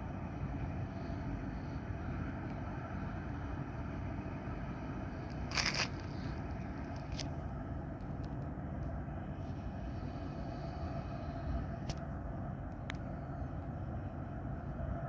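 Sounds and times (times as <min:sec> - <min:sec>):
distant harbour rumble: 0:00.0 - 0:15.0.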